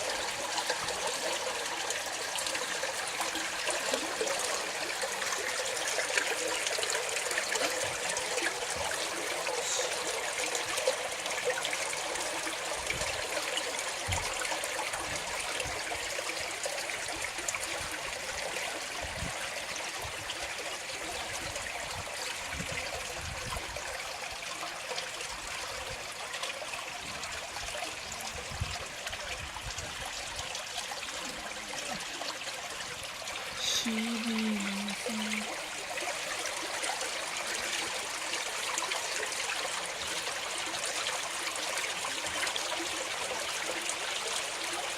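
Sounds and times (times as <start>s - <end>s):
water trickling in a stream: 0.0s - 44.9s.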